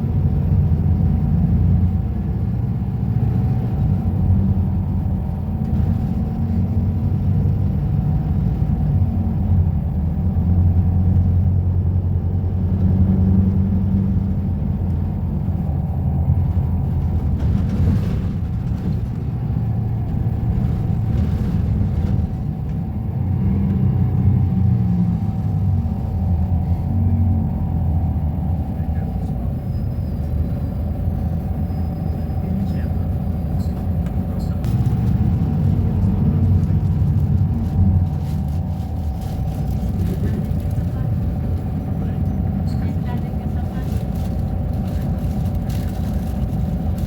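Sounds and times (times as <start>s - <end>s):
bus engine rumbling: 0.0s - 47.0s.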